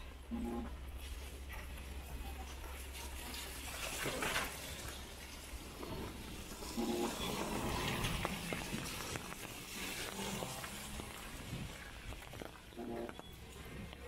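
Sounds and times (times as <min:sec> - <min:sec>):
water running and splashing: 0:01.0 - 0:12.8.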